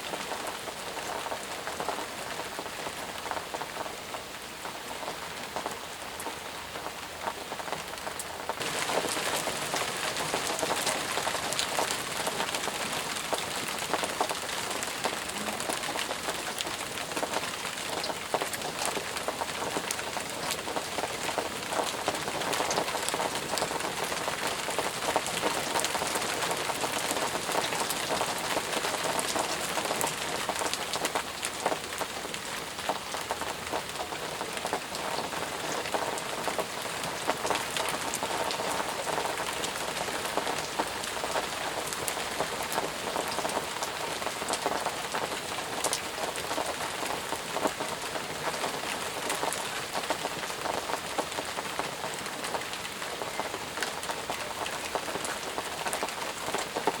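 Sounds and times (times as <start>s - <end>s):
heavy rain falling: 0.0s - 57.0s
raindrops pattering: 0.0s - 57.0s.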